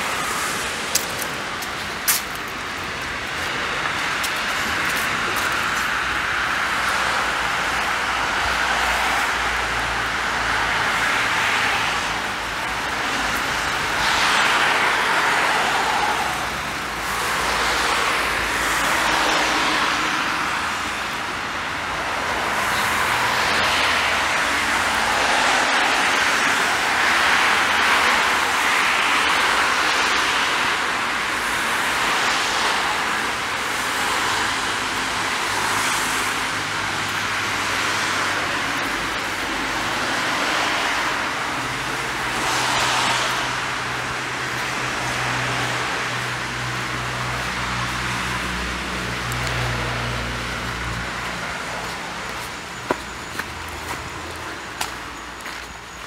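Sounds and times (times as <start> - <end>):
cars passing: 0.0 - 56.0
steady traffic rumble: 0.0 - 56.0.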